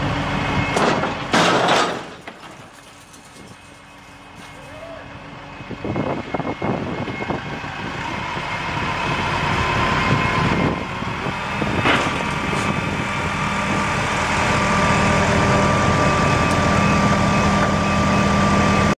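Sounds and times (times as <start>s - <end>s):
heavy machine engine running: 0.0s - 18.9s.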